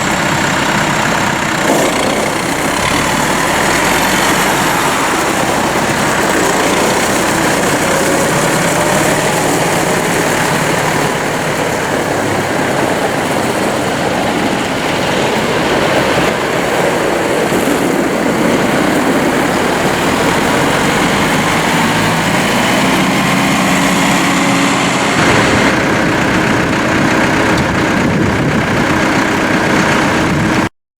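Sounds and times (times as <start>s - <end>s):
tractor diesel engine running: 0.0s - 30.7s.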